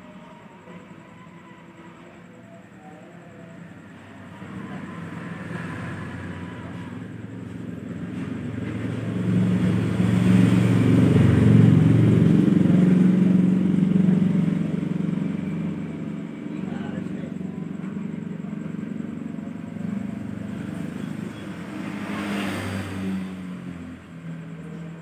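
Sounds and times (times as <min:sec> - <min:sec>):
vehicle engine passing by: 0:03.5 - 0:25.0.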